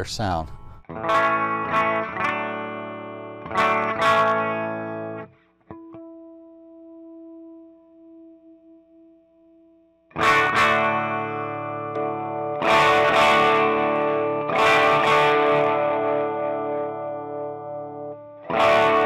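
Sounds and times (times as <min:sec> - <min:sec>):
overdriven electric guitar chords: 0:00.4 - 0:19.0.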